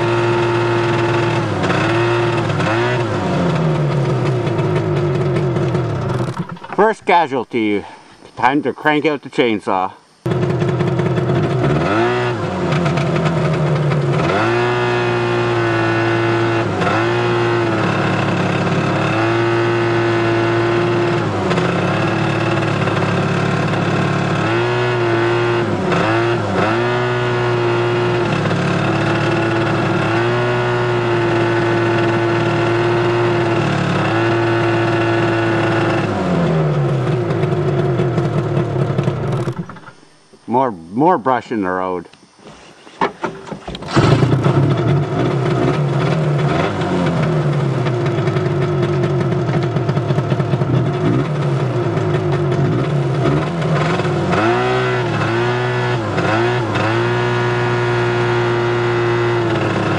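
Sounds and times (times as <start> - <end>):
snowmobile engine revving: 0.0 - 7.8, 10.3 - 39.6, 43.8 - 59.9.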